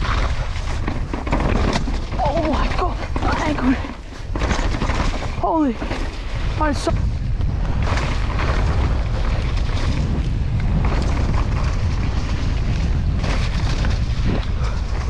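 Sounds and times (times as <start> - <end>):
bike knocks and rattles: 0.0 - 15.0
tyre noise: 0.0 - 15.0
wind rushing over microphone: 0.0 - 15.0.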